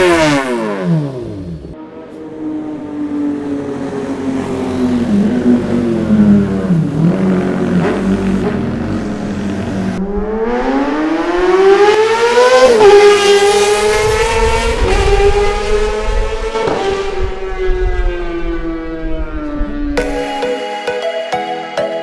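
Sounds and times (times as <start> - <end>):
motorcycle engine revving hard: 0.0 - 1.8, 3.6 - 19.8.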